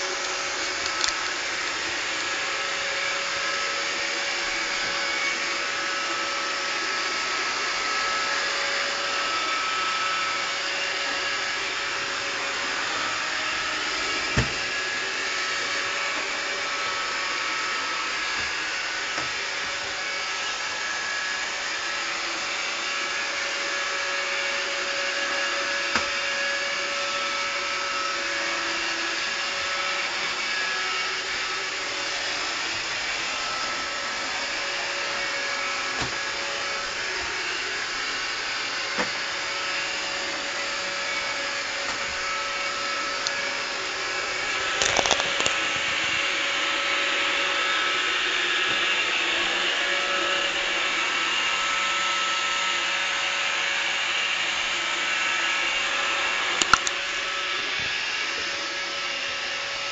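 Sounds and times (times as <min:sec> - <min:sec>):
robot vacuum running: 0:00.0 - 0:59.9.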